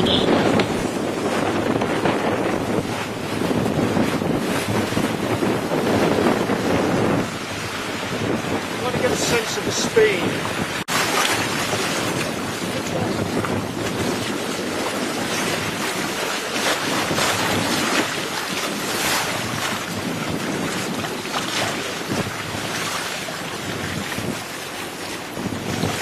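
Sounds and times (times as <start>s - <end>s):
water rushing past hulls: 0.0s - 26.0s
wind buffeting microphone: 0.0s - 26.0s.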